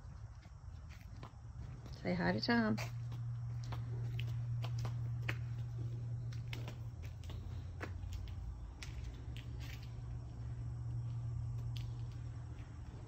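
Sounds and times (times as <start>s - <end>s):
light footsteps and taps: 0.0s - 13.0s
low hum: 0.0s - 13.0s.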